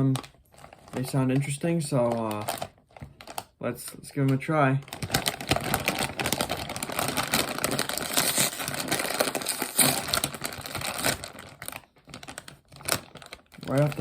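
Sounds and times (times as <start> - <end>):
chip bag crinkling: 0.0 - 14.0.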